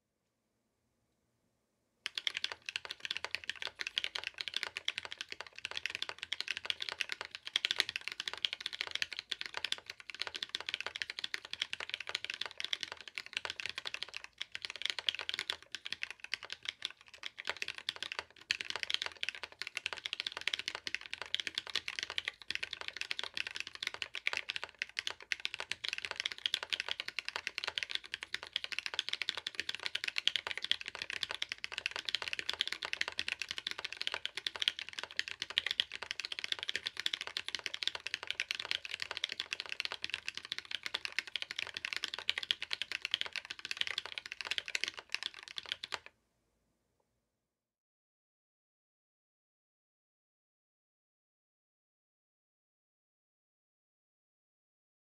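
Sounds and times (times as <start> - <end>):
mechanical keyboard typing: 2.1 - 46.1.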